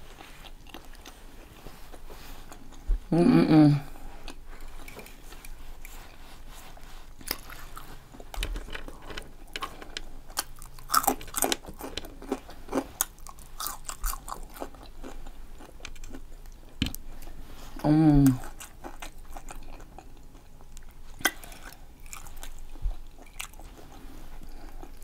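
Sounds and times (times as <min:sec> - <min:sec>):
person chewing food: 0:00.0 - 0:03.1, 0:03.9 - 0:25.0.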